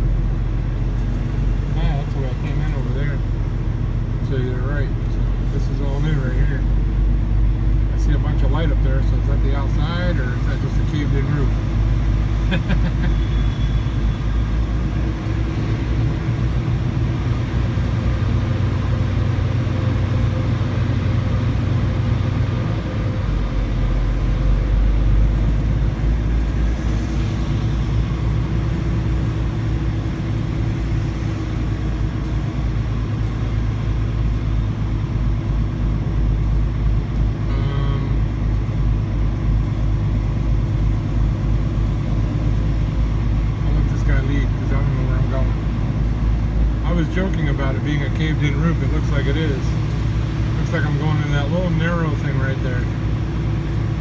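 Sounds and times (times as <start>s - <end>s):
truck diesel engine driving: 0.0s - 54.0s.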